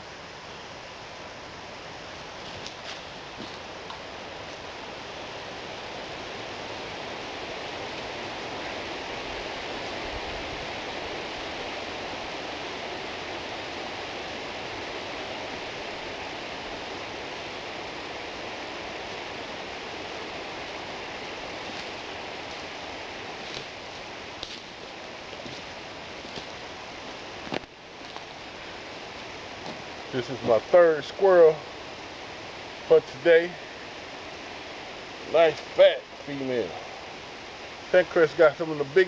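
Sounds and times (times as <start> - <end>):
wind through tree canopy: 0.0 - 39.0.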